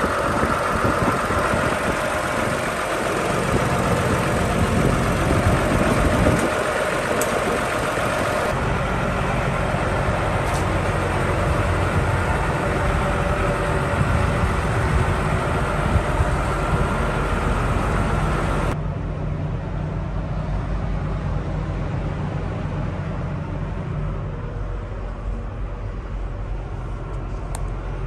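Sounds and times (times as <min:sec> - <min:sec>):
excavator diesel engine idling: 0:00.0 - 0:28.0.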